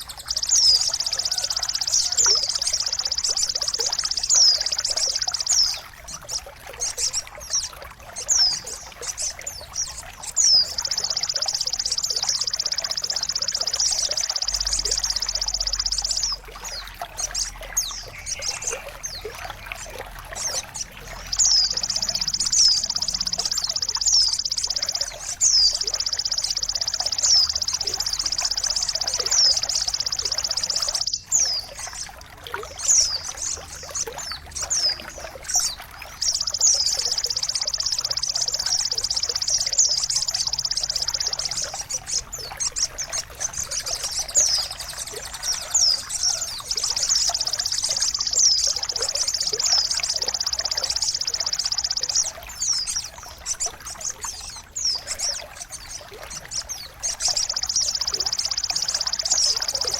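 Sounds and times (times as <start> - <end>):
songbird trilling and chirping: 0.0 - 59.9
trickling water: 0.0 - 59.9.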